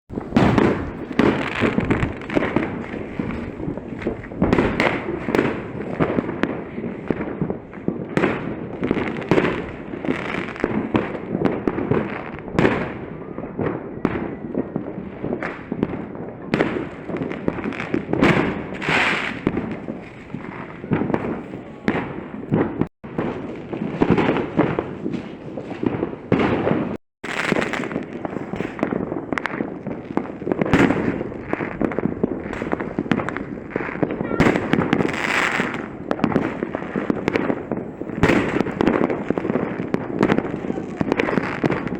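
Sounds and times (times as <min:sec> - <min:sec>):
fireworks bangs and crackles: 0:00.1 - 0:41.9.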